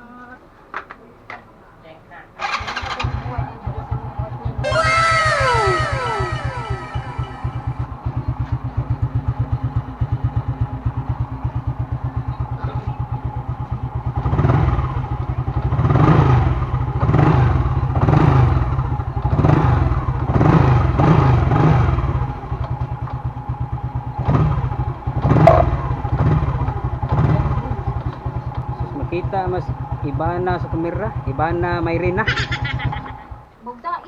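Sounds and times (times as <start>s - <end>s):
motorcycle engine idling and revving: 2.4s - 4.6s, 7.9s - 33.5s.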